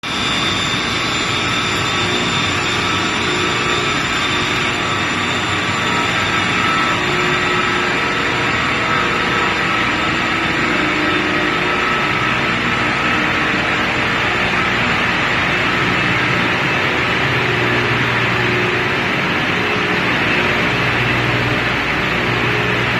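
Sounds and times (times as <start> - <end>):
machine drone with hiss: 0.0 - 22.9
faint whining tones: 0.1 - 22.9.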